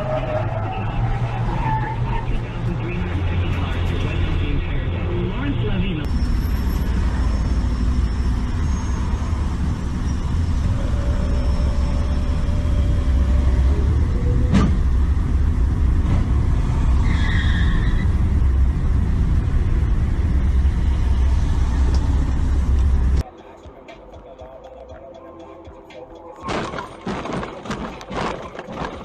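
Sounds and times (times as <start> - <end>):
car engine and road rumble: 0.0 - 23.3, 25.8 - 29.0.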